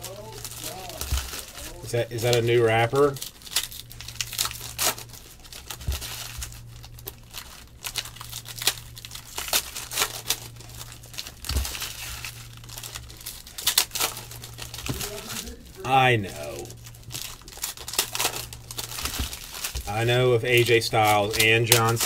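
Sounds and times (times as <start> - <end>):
cards rustling: 0.0 - 22.0
foil wrapper crinkling and tearing: 0.0 - 22.0
low steady hum: 0.0 - 22.0.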